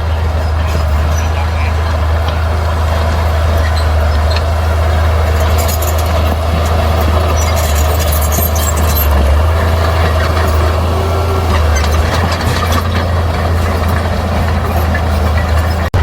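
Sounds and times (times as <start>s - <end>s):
bulldozer diesel engine drone: 0.0s - 16.0s.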